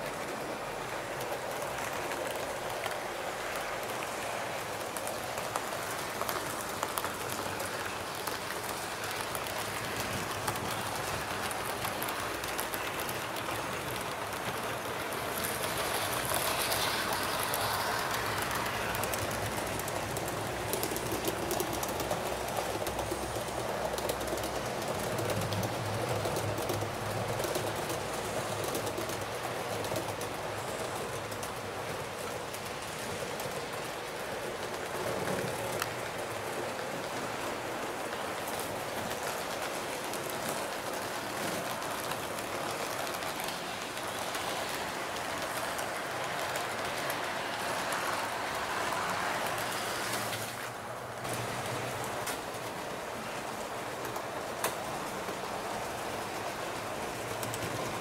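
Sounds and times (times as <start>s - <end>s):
model train wheels rattling: 1.0s - 58.0s.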